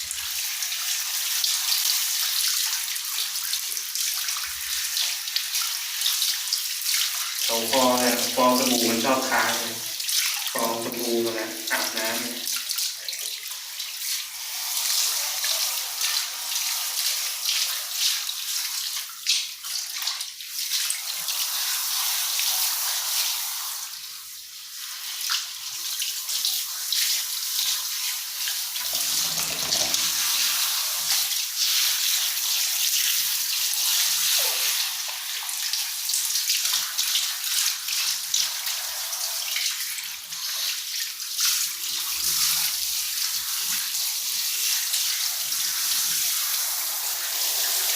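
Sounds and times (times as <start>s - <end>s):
water running from a hose: 0.0s - 47.9s.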